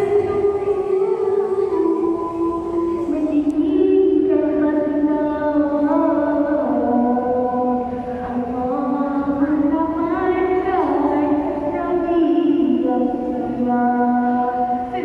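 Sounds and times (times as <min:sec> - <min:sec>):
girl singing chant-like melody: 0:00.0 - 0:15.0.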